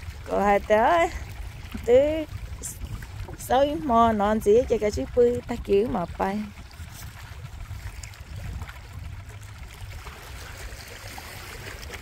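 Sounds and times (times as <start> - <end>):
waves lapping on rocks: 0.0 - 12.0
wind rumbling on microphone: 0.0 - 12.0.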